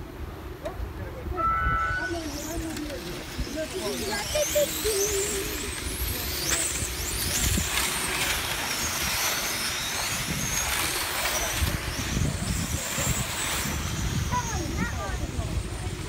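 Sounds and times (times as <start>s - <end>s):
rc car electric motors whining: 0.6s - 16.0s.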